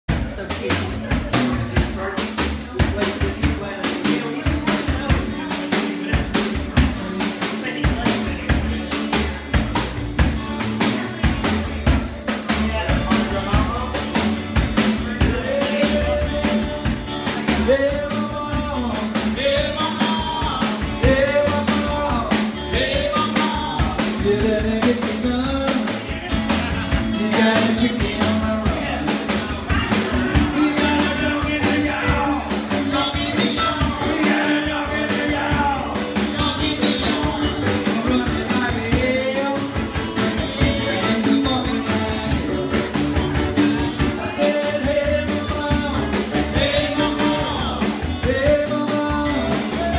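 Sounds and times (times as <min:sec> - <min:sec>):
guitars: 0:00.1 - 0:49.9
man singing into microphone: 0:01.5 - 0:09.5, 0:12.5 - 0:49.9.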